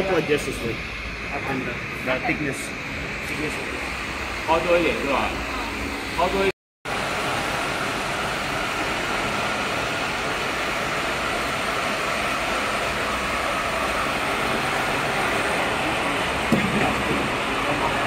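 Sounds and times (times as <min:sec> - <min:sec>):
production line machinery running: 0:00.0 - 0:18.0.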